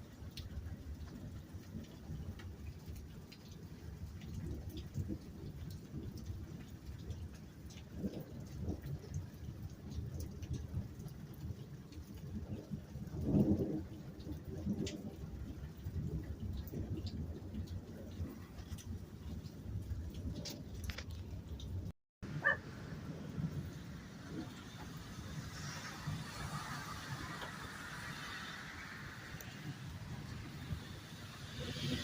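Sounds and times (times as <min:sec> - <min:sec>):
low uneven storm rumble: 0:00.0 - 0:32.0
raindrops ticking: 0:00.0 - 0:32.0
water drips: 0:00.0 - 0:32.0.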